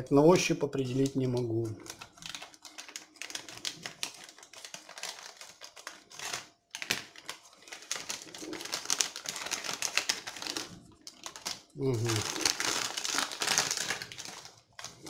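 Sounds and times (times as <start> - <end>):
plastic crinkling: 0.5 - 15.0
plastic bag rustling: 1.0 - 15.0.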